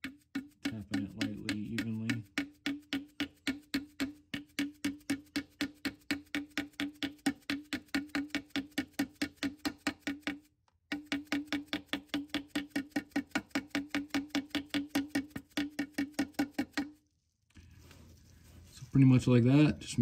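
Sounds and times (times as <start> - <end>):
hammer tapping quickly: 0.0 - 17.0.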